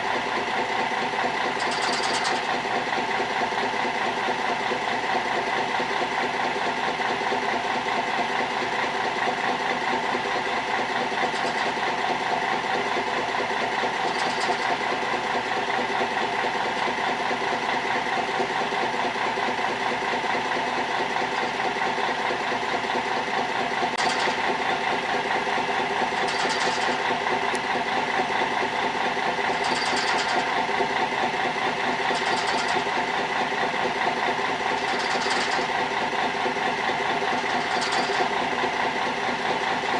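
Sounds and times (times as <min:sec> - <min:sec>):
boat engine humming: 0:02.4 - 0:39.9.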